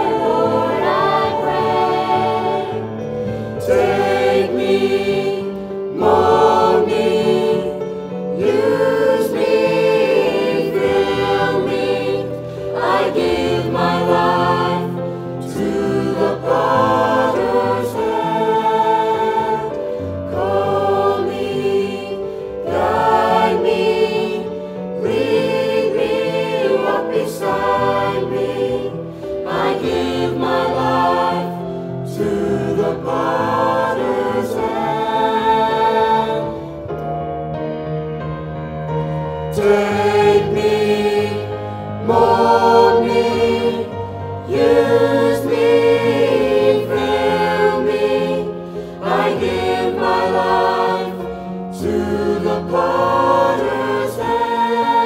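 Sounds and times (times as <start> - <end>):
mixed choir singing: 0.0 - 37.0, 38.4 - 55.0.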